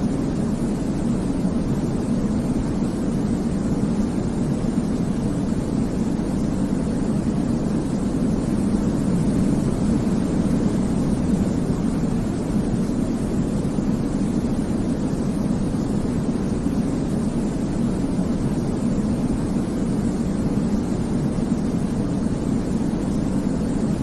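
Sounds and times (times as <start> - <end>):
low rumbling white noise: 0.0 - 24.0.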